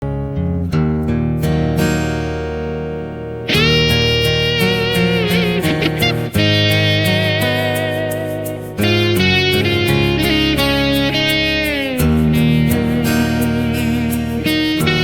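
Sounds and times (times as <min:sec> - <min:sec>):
guitar music with bass line: 0:00.0 - 0:15.0.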